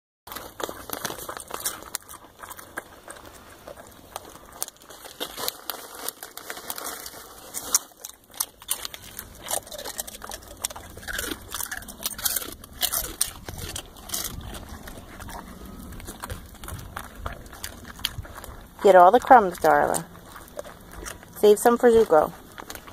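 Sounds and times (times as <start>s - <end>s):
dogs crunching chips: 0.3s - 22.9s.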